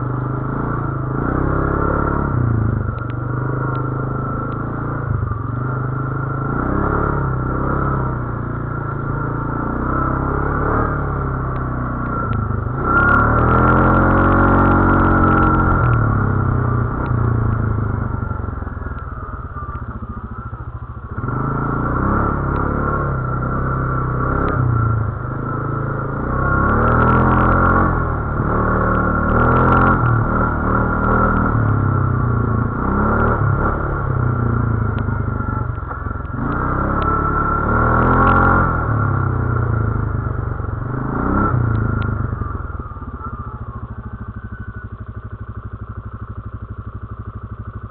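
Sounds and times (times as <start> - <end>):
atv engine revving: 0.0 - 47.9
steady high whine: 0.0 - 47.9.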